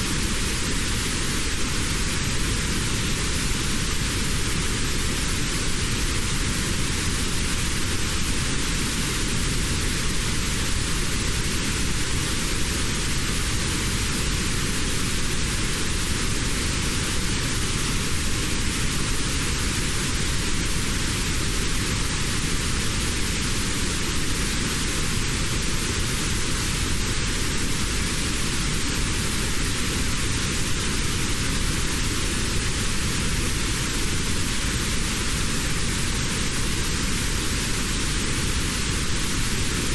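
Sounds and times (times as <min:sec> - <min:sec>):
synthetic white noise hiss: 0:00.0 - 0:39.9.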